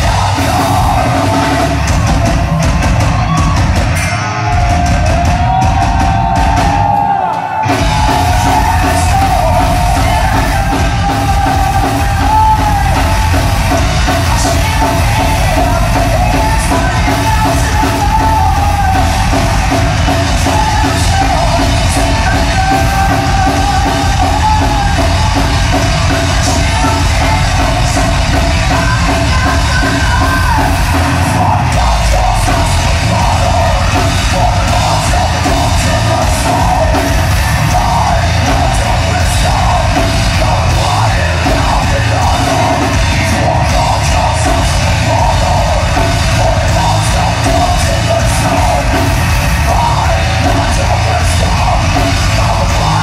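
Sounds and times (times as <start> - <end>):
heavy metal band playing live: 0.0 - 53.0
pounding drum kit: 0.0 - 53.0.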